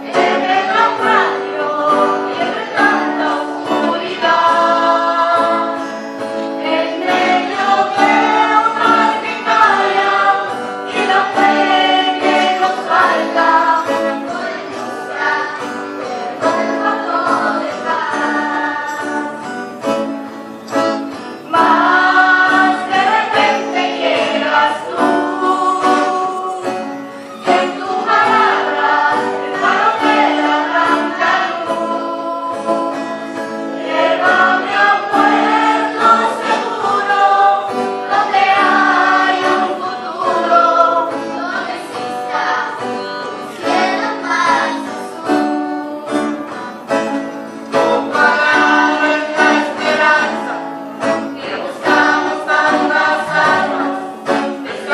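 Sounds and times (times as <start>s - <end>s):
acoustic guitar chords: 0.0s - 54.9s
choir singing: 0.0s - 54.9s.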